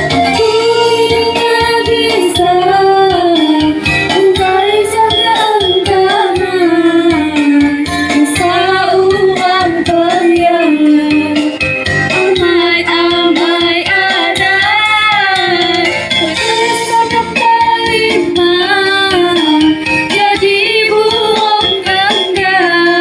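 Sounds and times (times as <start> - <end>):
instrumental backing track: 0.0 - 23.0
young woman singing: 0.4 - 11.5, 12.2 - 23.0.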